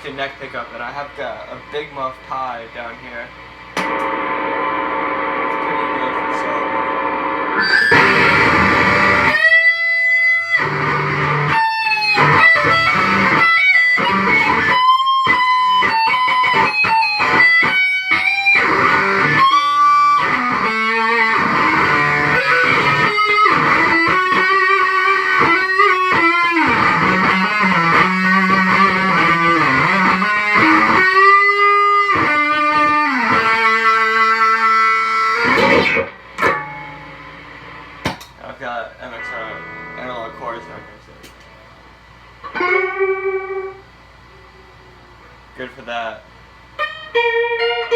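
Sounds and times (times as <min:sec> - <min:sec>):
fuzz electric guitar solo: 0:03.8 - 0:38.0, 0:39.1 - 0:40.9, 0:42.4 - 0:45.2, 0:46.8 - 0:47.9.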